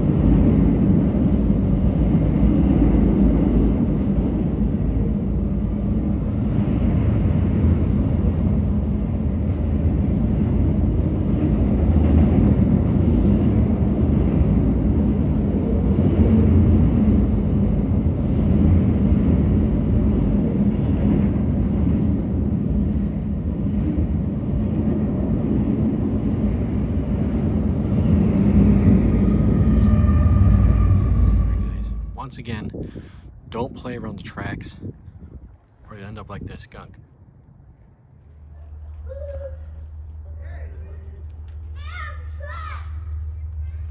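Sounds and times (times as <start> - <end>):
train rumbling past: 0.0 - 43.9.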